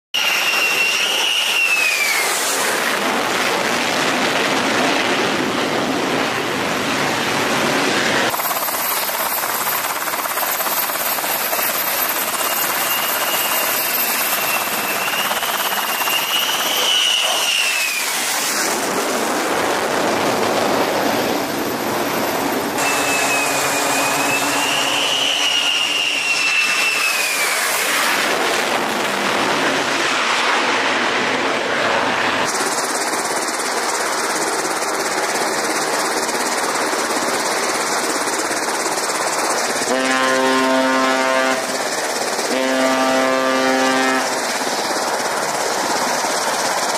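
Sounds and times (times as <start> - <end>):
high jet whine: 0.2 - 46.9
jet engine roaring: 0.2 - 46.9.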